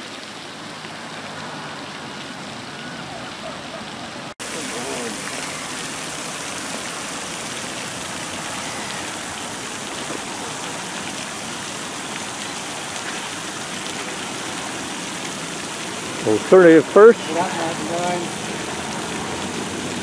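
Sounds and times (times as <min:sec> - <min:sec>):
heavy rain on a pond: 0:00.0 - 0:20.0.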